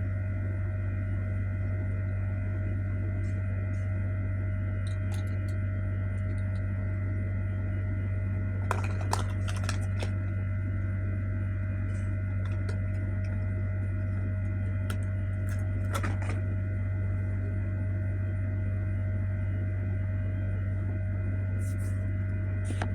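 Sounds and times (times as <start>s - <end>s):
low electrical hum: 0.0s - 22.9s.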